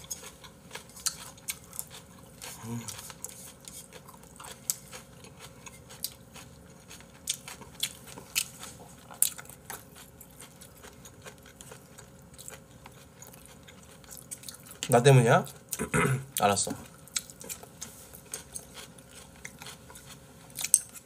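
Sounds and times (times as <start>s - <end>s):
chewing and biting food: 0.0s - 21.0s.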